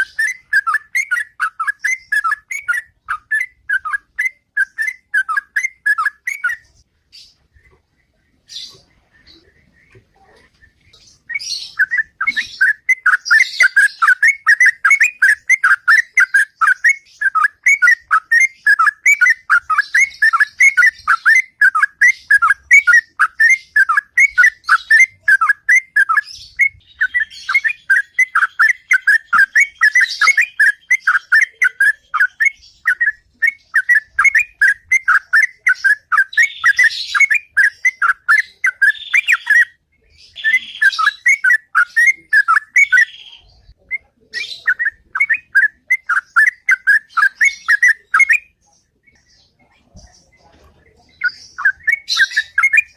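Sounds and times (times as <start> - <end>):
bird singing rapid chirps: 0.0 - 52.9.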